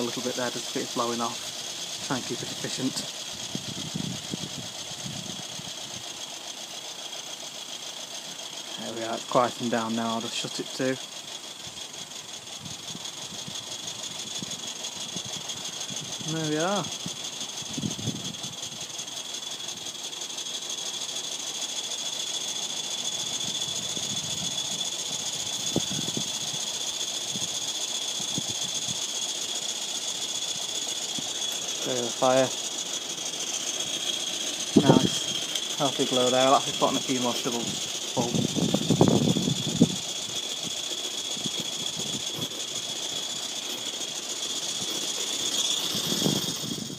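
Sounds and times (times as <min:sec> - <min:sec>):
steady high whine: 0:00.0 - 0:46.9
steam hiss: 0:00.0 - 0:46.9.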